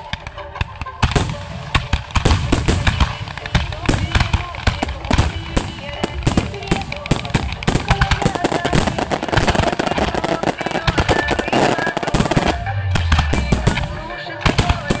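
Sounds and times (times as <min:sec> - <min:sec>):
fireworks shells bursting: 0:00.0 - 0:15.0.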